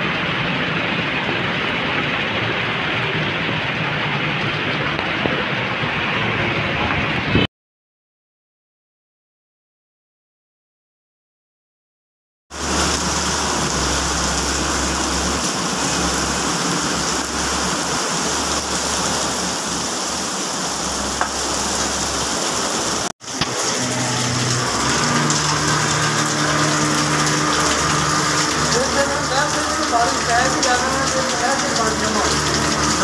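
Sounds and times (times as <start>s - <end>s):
heavy rain pouring: 0.0s - 7.5s, 12.5s - 33.0s.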